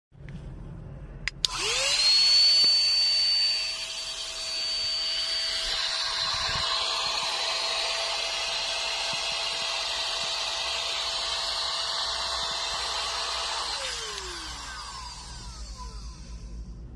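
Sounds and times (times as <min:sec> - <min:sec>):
mini vacuum motor whine: 0:01.4 - 0:16.8.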